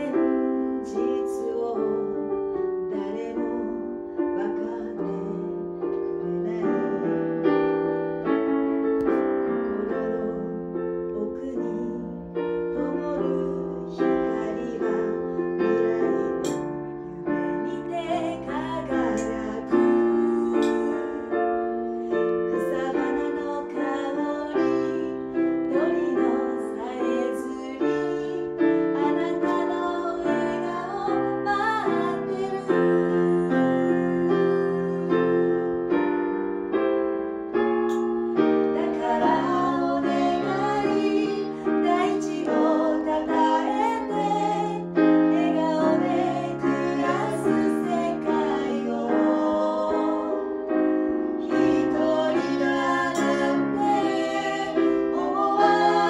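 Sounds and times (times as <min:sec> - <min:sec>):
electronic keyboard piano passage: 0:00.0 - 0:56.0.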